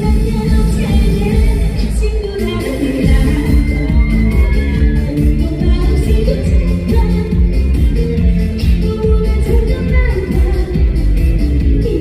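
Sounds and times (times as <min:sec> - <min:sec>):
trot music over loudspeakers: 0:00.0 - 0:12.0.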